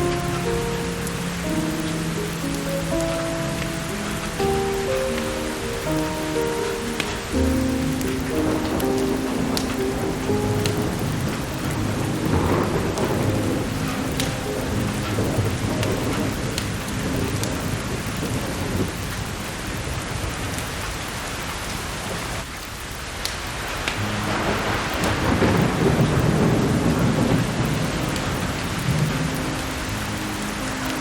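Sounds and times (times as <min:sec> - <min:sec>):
rolling thunder: 0:00.0 - 0:20.3, 0:24.0 - 0:31.0
firewood crackling: 0:00.0 - 0:31.0
steady rain: 0:00.0 - 0:31.0.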